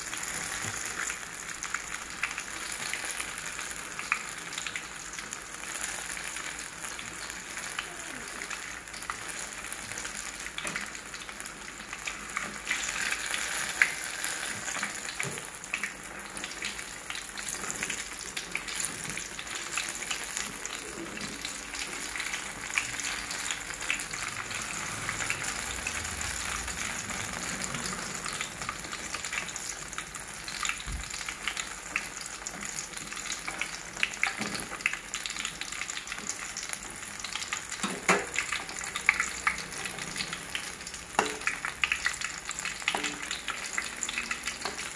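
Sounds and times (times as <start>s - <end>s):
deep-frying sizzle and crackles: 0.0s - 44.9s.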